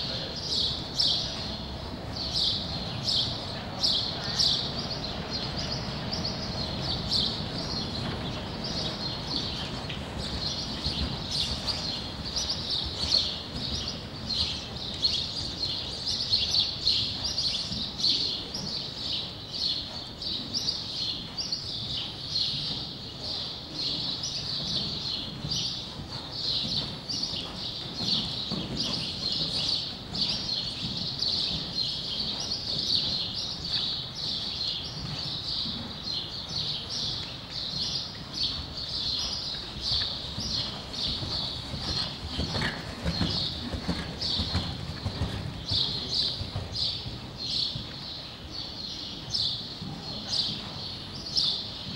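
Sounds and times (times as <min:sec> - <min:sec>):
small birds chirping: 0:00.0 - 0:51.9
horse hooves trotting on sand: 0:00.1 - 0:51.9.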